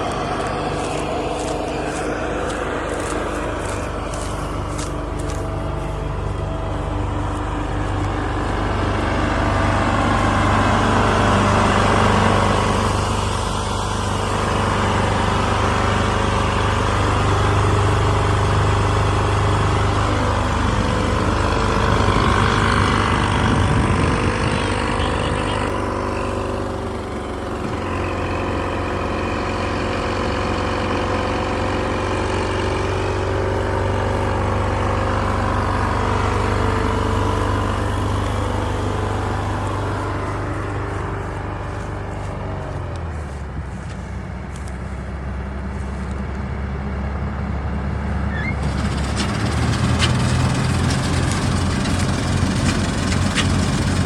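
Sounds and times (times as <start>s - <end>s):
farm machinery running: 0.0s - 54.0s.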